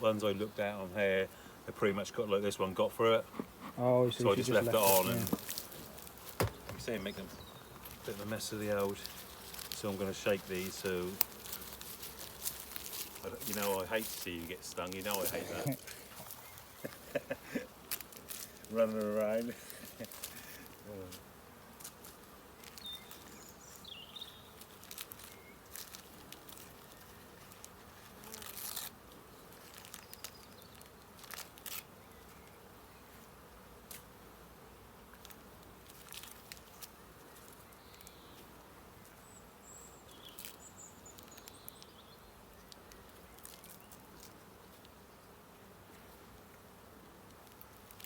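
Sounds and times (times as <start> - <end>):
bees buzzing: 0.0 - 48.0.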